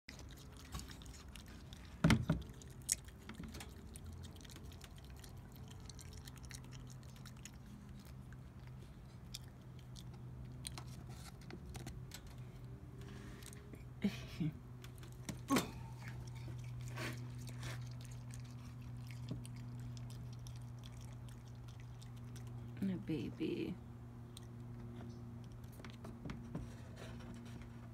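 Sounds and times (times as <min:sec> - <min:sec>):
raccoon chewing grapes: 0:00.1 - 0:14.0, 0:14.6 - 0:27.9
steady low hum: 0:00.1 - 0:27.9.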